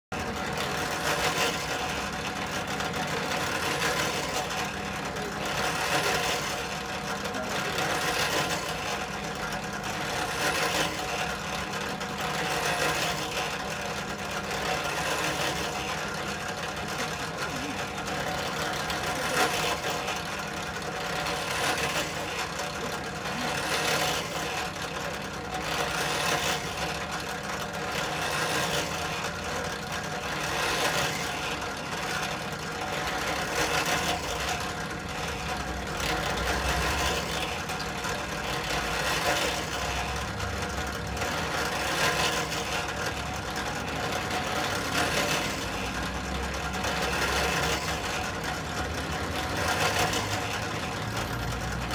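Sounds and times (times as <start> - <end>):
drill press motor hum: 0.1 - 51.9.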